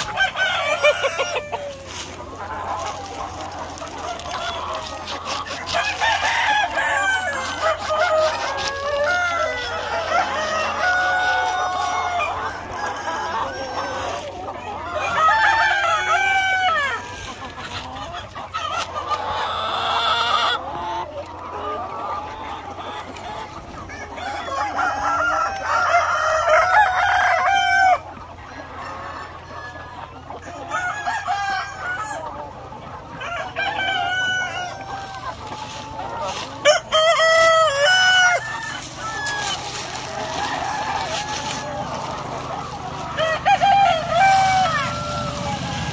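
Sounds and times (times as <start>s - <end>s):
chickens clucking: 0.0s - 45.9s
roosters crowing: 0.0s - 45.9s.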